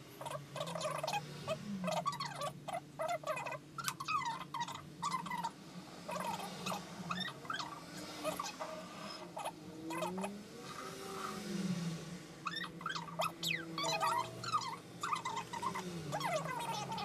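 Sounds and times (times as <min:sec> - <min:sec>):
short animal calls: 0:00.2 - 0:11.8, 0:12.4 - 0:17.0.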